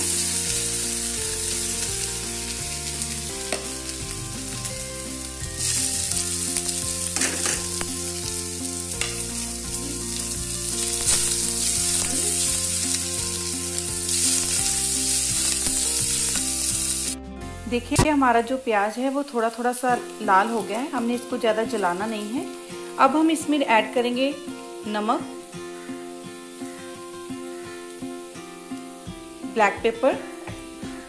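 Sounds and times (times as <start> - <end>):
onions sizzling in oil: 0.0 - 17.2, 17.8 - 31.0.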